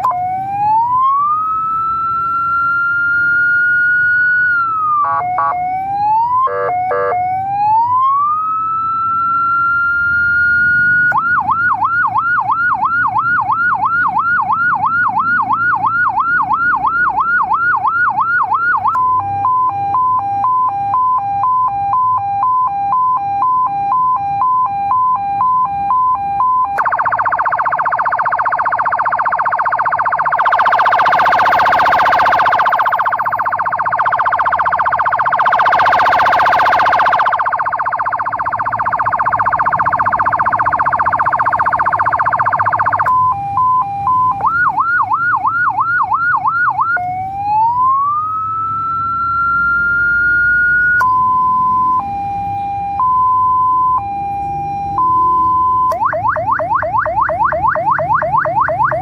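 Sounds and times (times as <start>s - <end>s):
electronic siren: 0.0s - 59.0s.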